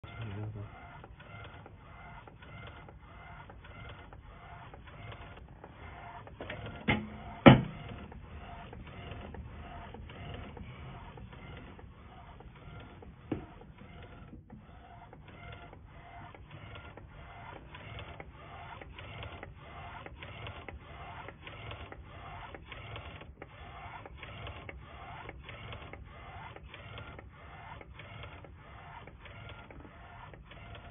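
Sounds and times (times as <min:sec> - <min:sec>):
printer carriage motor whine: 0:00.0 - 0:30.9.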